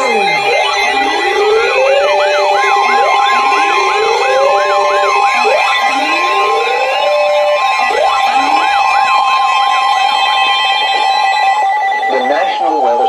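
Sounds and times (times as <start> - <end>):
fast siren yelp: 0.0 - 13.0
rising siren wail: 0.0 - 13.0
steady high tones: 0.0 - 13.0.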